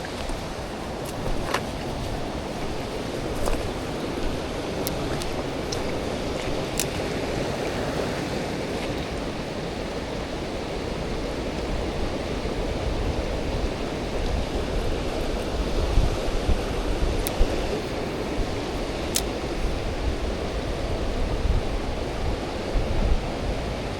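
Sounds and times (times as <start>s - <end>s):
stream water rushing: 0.0s - 23.9s.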